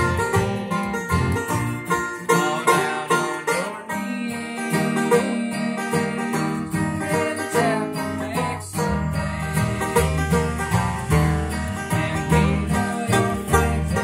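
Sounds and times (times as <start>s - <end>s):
acoustic guitar: 0.0s - 14.0s
picked banjo: 0.0s - 14.0s
plucked upright bass: 0.0s - 14.0s.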